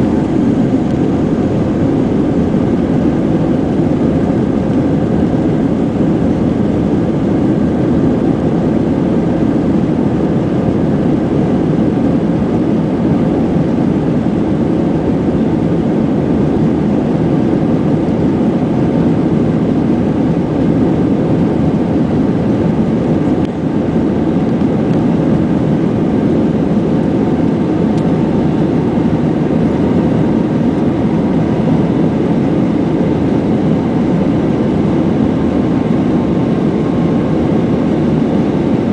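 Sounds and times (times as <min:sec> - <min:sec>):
airplane engines heard from cabin: 0:00.0 - 0:38.9.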